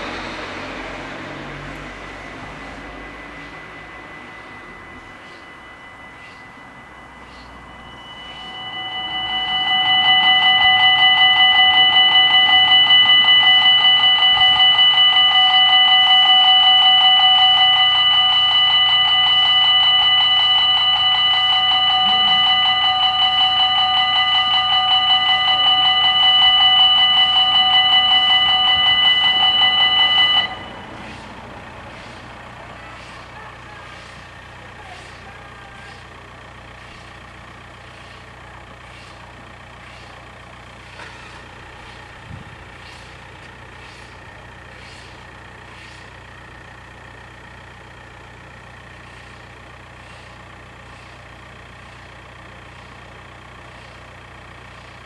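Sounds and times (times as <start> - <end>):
level crossing bells ringing: 0.0 - 55.0.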